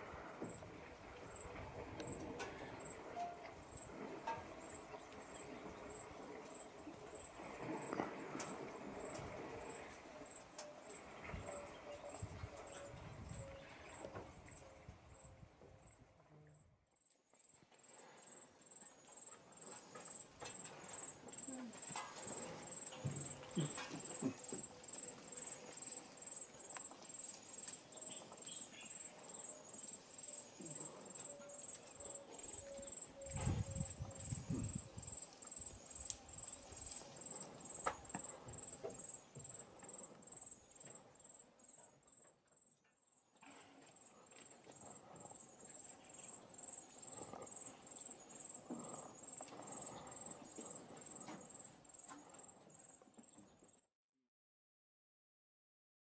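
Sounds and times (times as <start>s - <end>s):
insects chirping: 0.1s - 13.6s, 17.0s - 43.4s, 44.0s - 53.1s.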